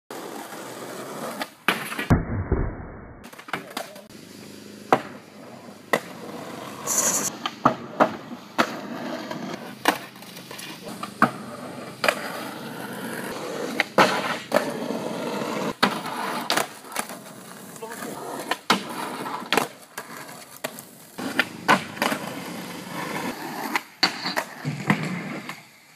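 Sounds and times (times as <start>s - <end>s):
skateboard clacks: 0.1s - 2.1s, 3.3s - 4.1s, 4.9s - 25.7s
skateboard wheels rolling on asphalt: 0.1s - 2.2s, 3.2s - 25.9s.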